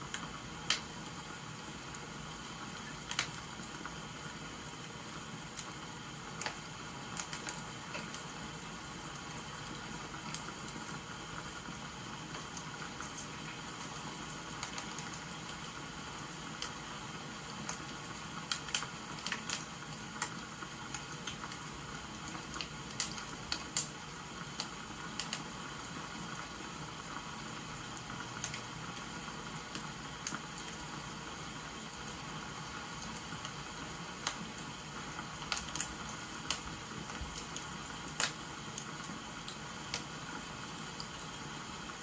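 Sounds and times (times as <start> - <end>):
rain hissing: 0.0 - 42.0
wood fire crackling: 0.0 - 42.0.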